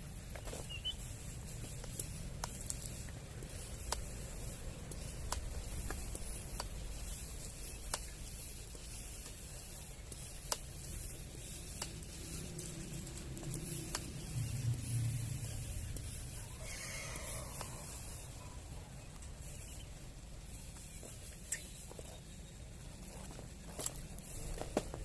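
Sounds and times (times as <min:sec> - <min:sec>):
low steady rumble: 0:00.0 - 0:20.9.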